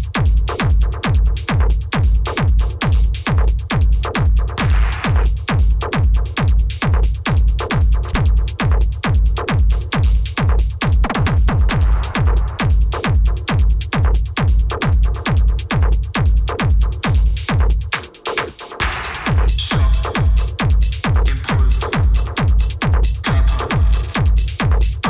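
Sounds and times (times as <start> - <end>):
industrial electronic dance music: 0.0 - 25.0.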